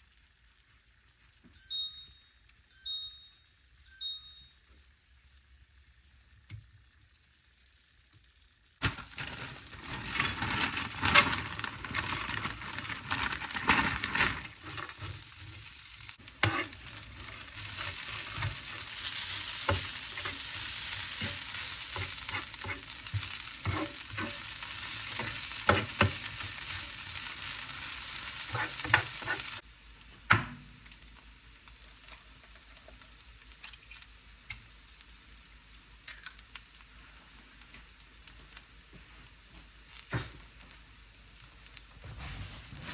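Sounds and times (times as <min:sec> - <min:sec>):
hash browns sizzling: 0:00.0 - 0:42.9.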